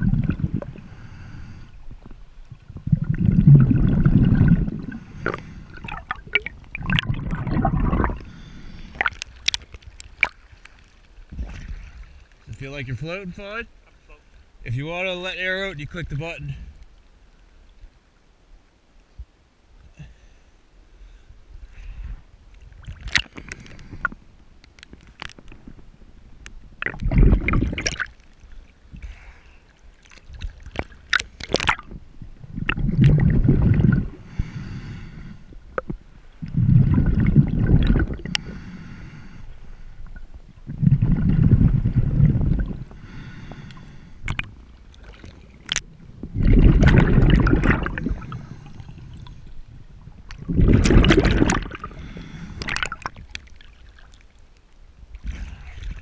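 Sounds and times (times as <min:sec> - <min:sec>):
water sloshing and gurgling: 0:00.0 - 0:15.2, 0:21.3 - 0:56.0.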